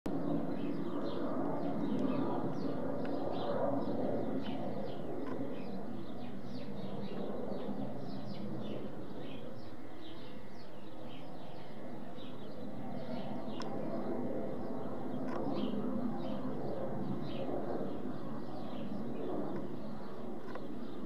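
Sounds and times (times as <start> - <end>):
jet aircraft rumble overhead: 0.1 - 21.0
small birds chirping: 0.1 - 21.0.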